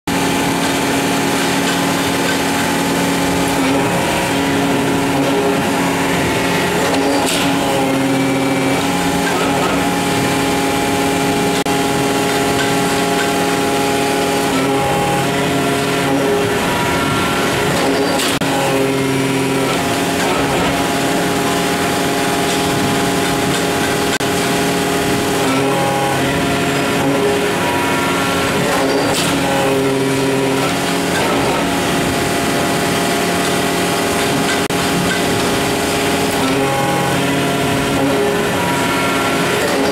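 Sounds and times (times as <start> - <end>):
press machine hum: 0.1 - 39.9
short sharp machine noise: 0.1 - 39.9.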